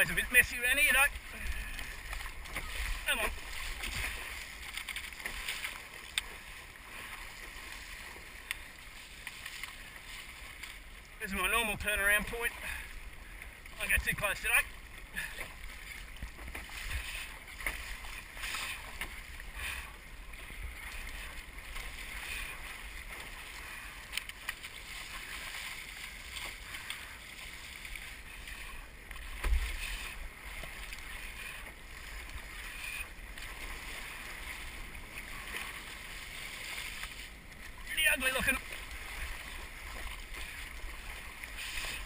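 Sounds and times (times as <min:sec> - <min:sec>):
paddle strokes swishing in water: 0:00.0 - 0:42.0
water splashing at bow: 0:00.0 - 0:42.0.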